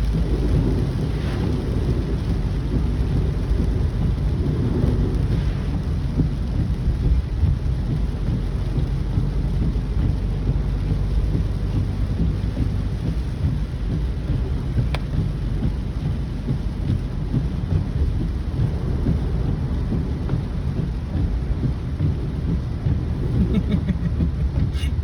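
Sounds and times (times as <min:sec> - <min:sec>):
low rumble: 0:00.0 - 0:25.0
steady heavy rain: 0:00.0 - 0:25.0.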